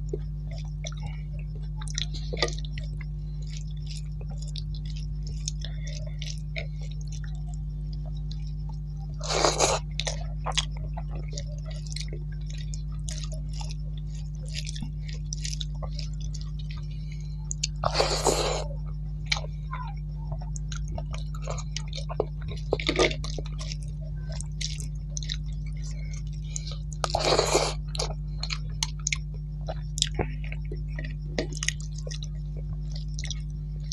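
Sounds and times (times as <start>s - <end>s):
low electrical hum: 0.0s - 33.9s
person chewing food: 0.0s - 33.9s.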